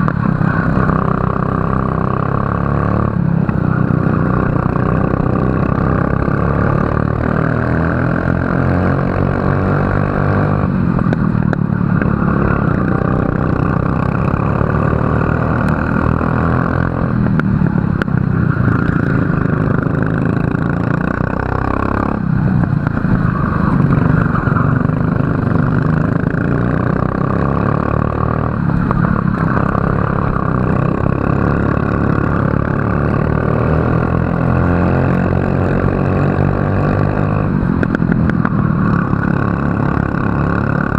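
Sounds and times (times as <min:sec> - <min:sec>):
racing kart engine revving: 0:00.0 - 0:40.9.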